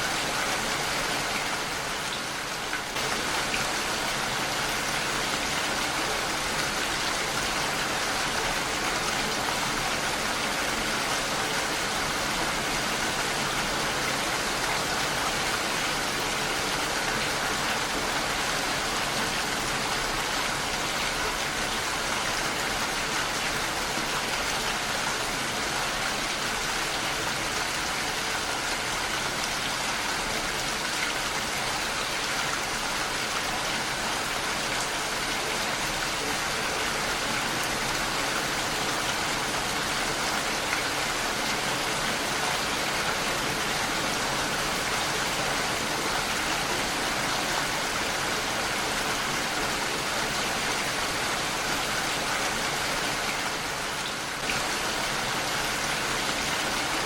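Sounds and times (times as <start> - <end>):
heavy rain on a window: 0.0 - 57.0.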